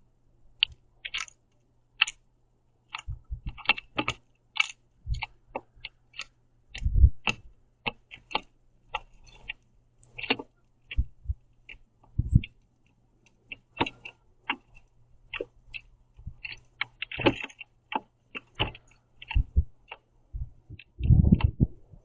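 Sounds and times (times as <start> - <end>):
beaks pecking seeds: 0.6 - 2.2, 2.8 - 21.1.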